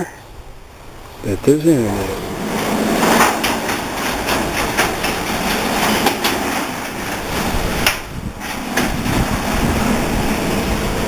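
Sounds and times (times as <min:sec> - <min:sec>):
garage door rattling on tracks: 0:02.1 - 0:11.0.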